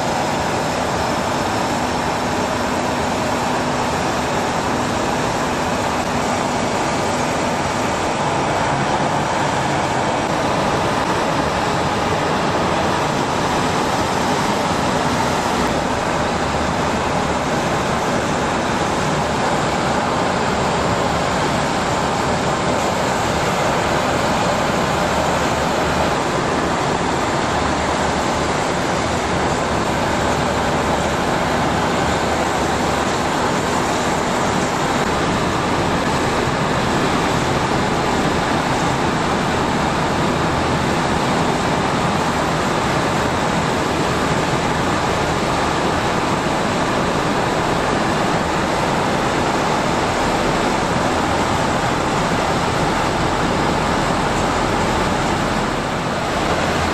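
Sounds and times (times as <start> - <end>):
gas turbine engines roaring: 0.0 - 56.9
high turbine whine: 0.0 - 56.9.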